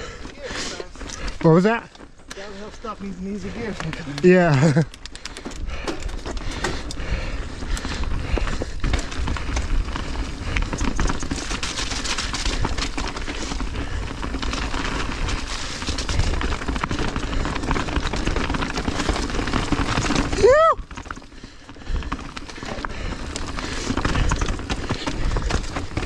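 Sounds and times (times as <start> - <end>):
bike tyres rolling on dirt: 0.0 - 26.0
bike knocks and rattles: 3.9 - 26.0.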